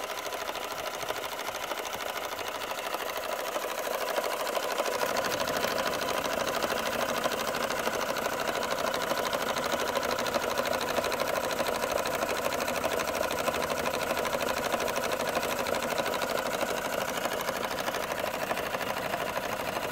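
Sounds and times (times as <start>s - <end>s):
toy steam engine running: 0.0s - 19.9s.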